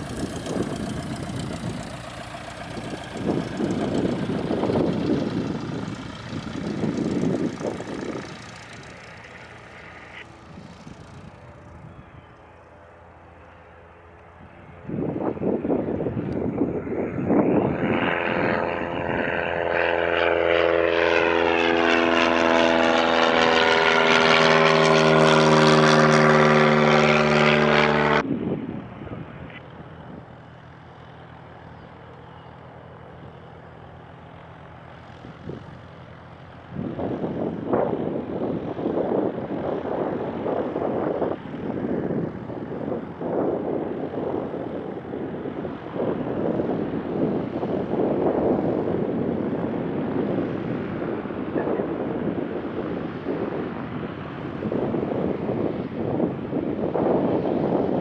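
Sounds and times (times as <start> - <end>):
wind buffeting microphone: 0.0 - 12.4, 14.3 - 30.4, 34.3 - 58.0
propeller airplane passing: 0.0 - 58.0.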